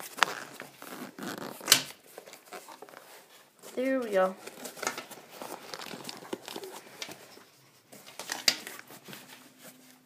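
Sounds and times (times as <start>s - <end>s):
fabric case rustling: 0.0s - 10.0s.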